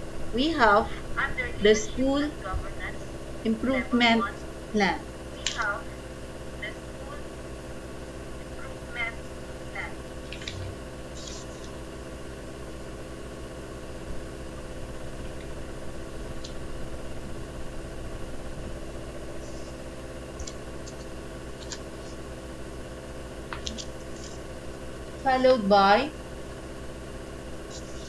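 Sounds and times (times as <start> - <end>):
mechanical room hum: 0.0 - 28.0.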